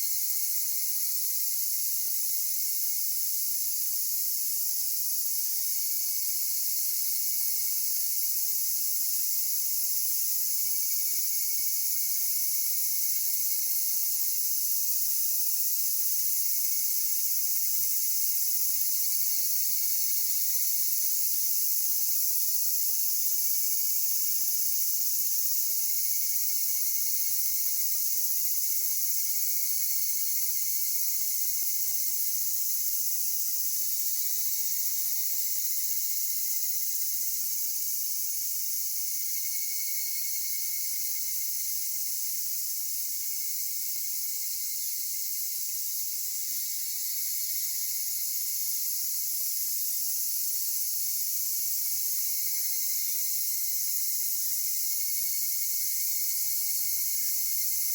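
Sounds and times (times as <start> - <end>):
insect chorus with cicadas: 0.0 - 57.9.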